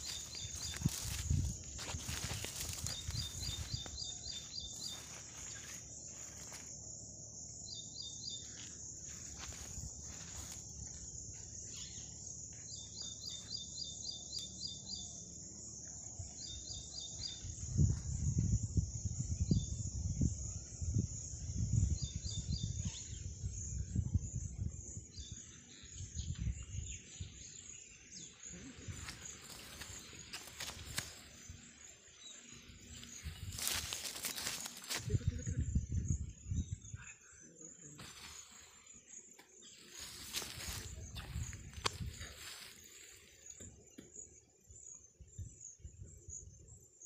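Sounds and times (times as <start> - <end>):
high insect drone: 0.0 - 46.7.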